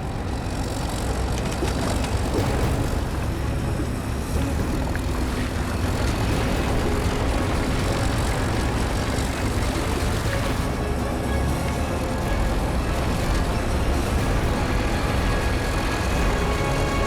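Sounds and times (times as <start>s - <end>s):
bulldozer diesel engines rumbling: 0.0s - 17.0s.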